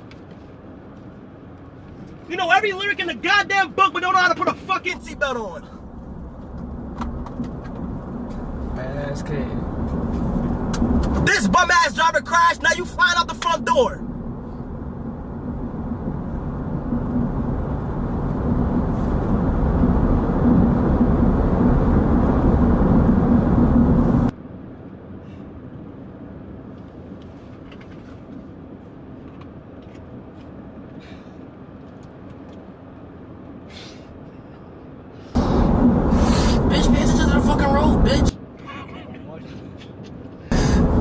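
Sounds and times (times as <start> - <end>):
engine and road rumble: 0.0 - 41.0.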